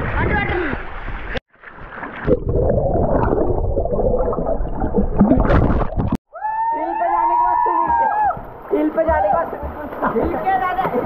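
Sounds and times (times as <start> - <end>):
pool water sloshing and splashing: 0.7 - 6.2, 7.4 - 11.0.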